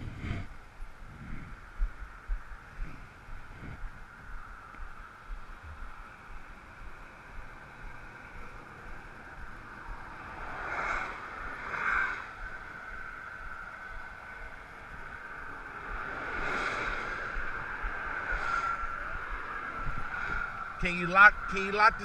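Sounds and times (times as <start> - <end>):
highway traffic rushing: 0.0 - 22.0
vehicles passing by: 0.0 - 22.0.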